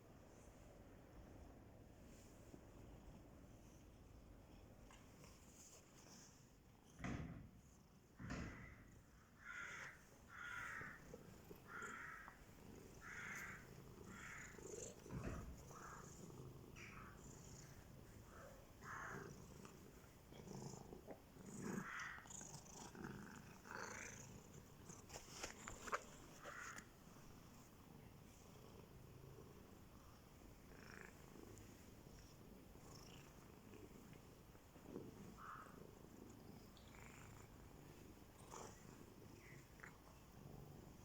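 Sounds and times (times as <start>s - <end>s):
cats purring: 0.0s - 41.0s.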